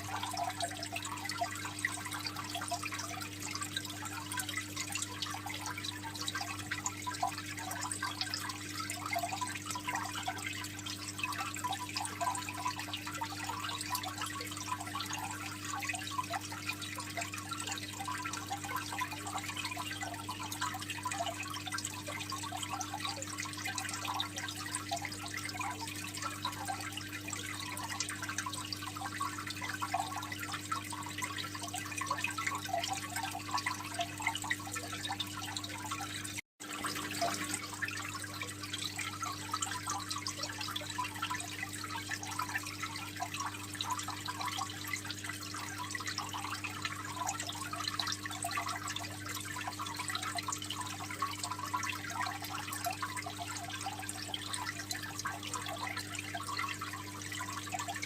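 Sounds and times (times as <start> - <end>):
aquarium water trickling: 0.0 - 58.0.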